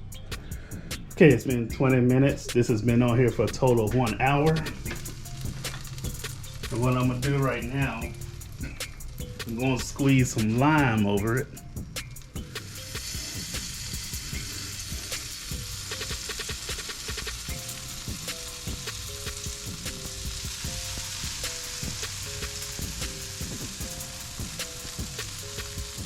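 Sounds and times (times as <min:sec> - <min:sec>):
quiet background melody: 0:00.0 - 0:26.0
chicken sizzling on a grill: 0:03.5 - 0:11.4, 0:12.1 - 0:26.0.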